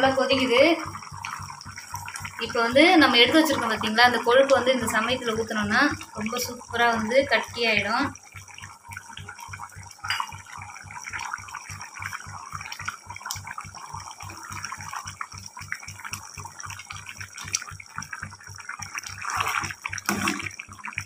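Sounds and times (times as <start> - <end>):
thick gravy bubbling and popping: 0.0 - 21.0.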